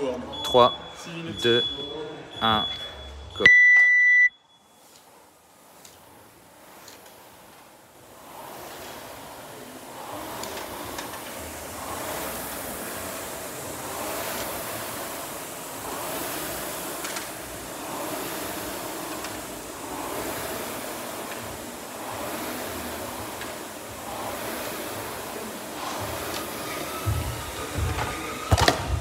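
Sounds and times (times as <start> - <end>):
rowing machine flywheel rushing air: 4.6 - 29.0.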